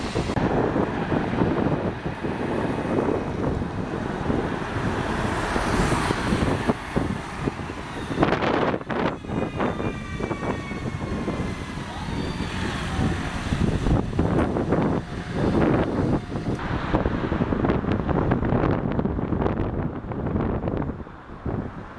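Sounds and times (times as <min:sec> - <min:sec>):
falling whine: 0:00.0 - 0:19.8
motor vehicle passing: 0:00.0 - 0:21.9
wind-like rumble: 0:00.0 - 0:21.9.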